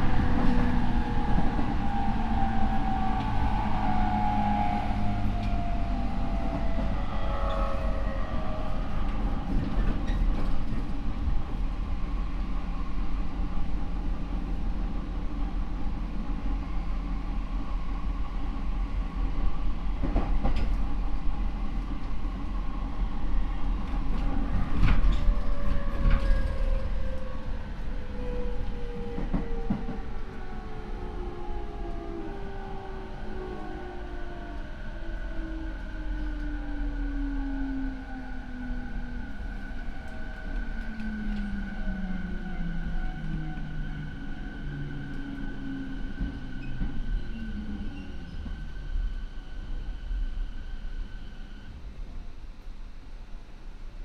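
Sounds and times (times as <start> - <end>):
train rolling noise: 0.0 - 54.0.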